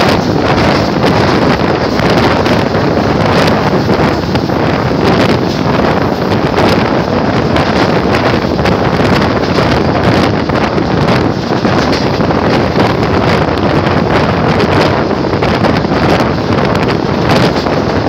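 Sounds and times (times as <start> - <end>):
train wheels rumbling on rails: 0.0 - 18.0
wind buffeting microphone: 0.0 - 18.0.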